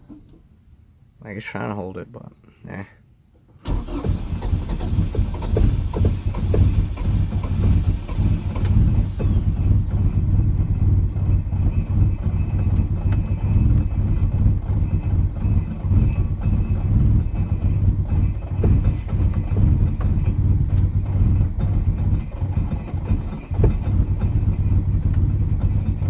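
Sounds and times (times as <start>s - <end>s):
engine sharp pops: 3.5s - 26.0s
car engine idling rough: 3.6s - 26.0s.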